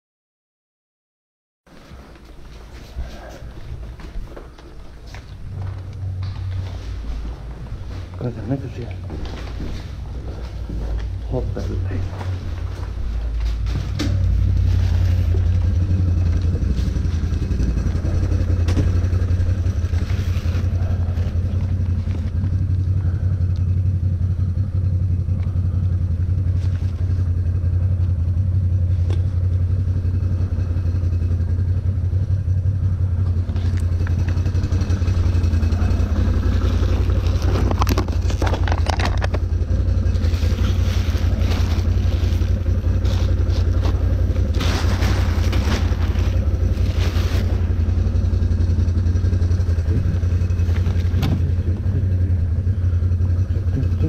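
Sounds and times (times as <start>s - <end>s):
engine running with deep hum: 1.8s - 54.0s.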